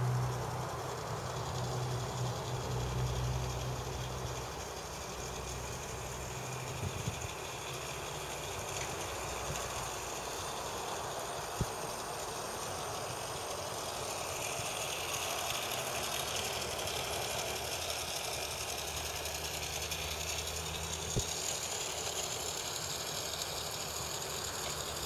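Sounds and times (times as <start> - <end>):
toy locomotive motor whirring: 0.0 - 25.0.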